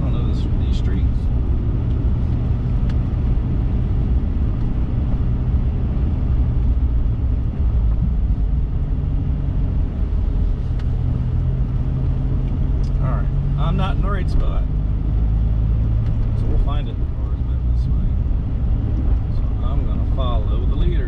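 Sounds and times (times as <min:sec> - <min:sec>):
car engine low drone: 0:00.0 - 0:21.0.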